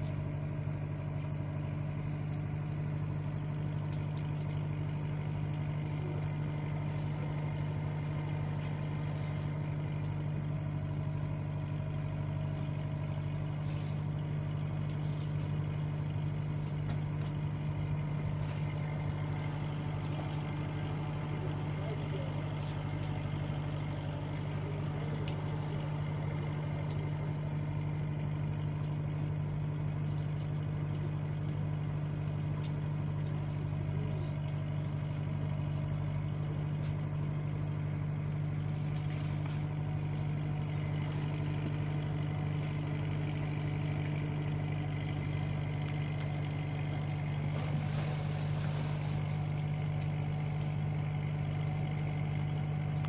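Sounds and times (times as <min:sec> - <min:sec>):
boat engine idling: 0:00.0 - 0:53.0.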